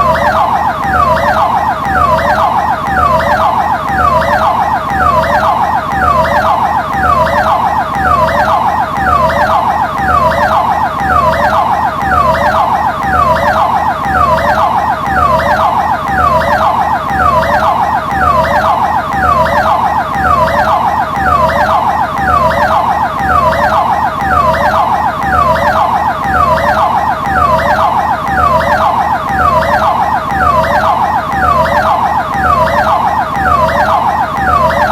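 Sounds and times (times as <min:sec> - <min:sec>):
ambulance siren yelping: 0:00.0 - 0:34.9.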